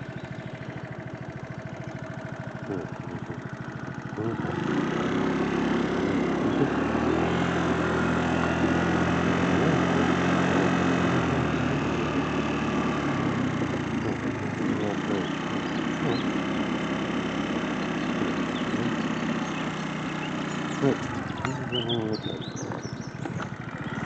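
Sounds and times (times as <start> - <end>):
steady low hum: 0.0 - 24.0
vehicle engine running: 0.0 - 24.0.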